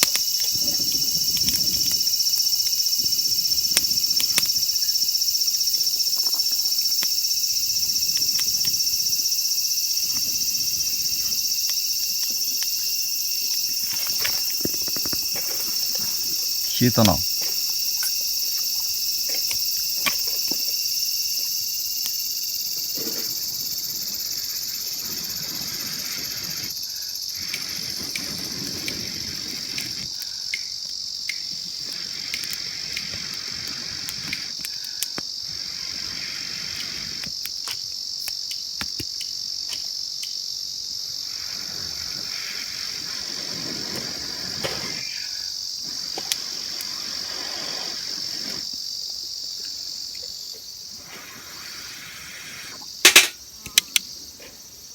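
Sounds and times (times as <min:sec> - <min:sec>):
insects chirring: 0:00.0 - 0:54.9.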